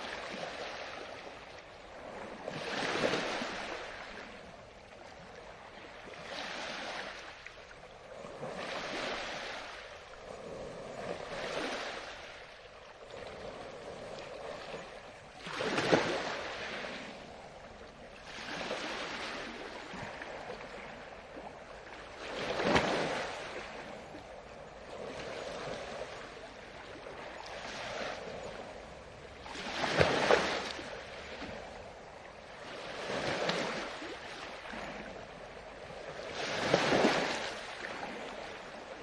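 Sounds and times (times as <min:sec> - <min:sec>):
ocean waves washing onto shore: 0:00.0 - 0:39.0.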